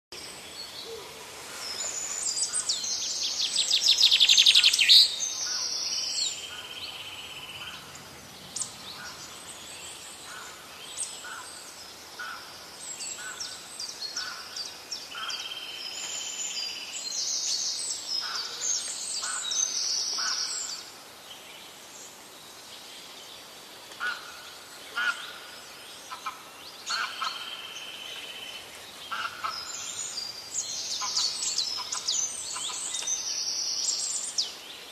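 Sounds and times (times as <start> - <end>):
birds chirping and trilling: 0.2 - 34.9.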